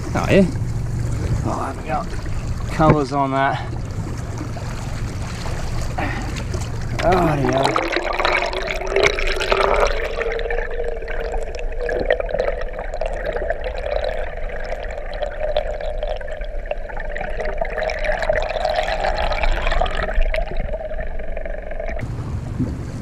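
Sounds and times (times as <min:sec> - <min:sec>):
boat motor humming: 0:00.0 - 0:23.0
water rushing and bubbling underwater: 0:00.0 - 0:23.0.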